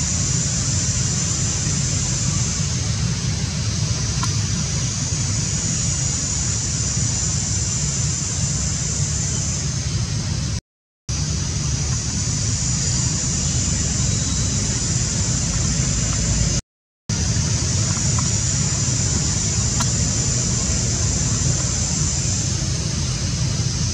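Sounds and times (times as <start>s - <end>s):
high even hiss: 0.0s - 23.9s.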